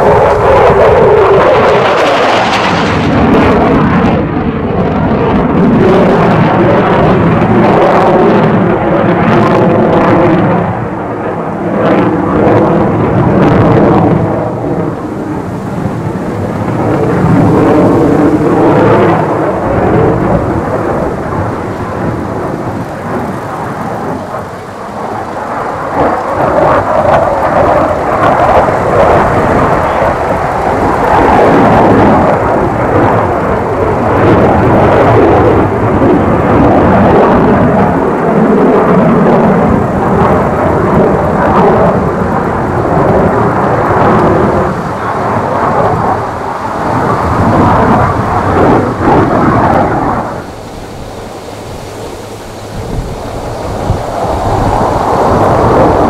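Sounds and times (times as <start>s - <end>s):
jet rumble: 0.0s - 56.0s.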